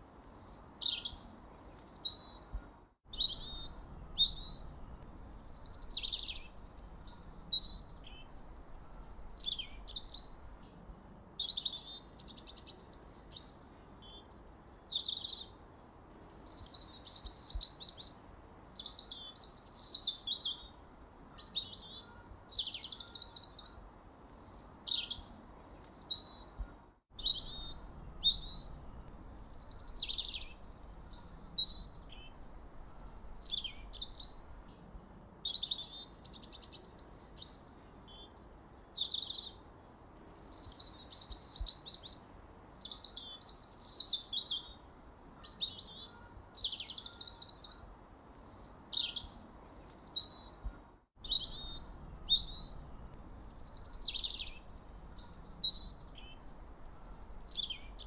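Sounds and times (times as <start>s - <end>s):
faint background hiss: 0.0s - 58.0s
songbirds singing: 0.0s - 58.0s.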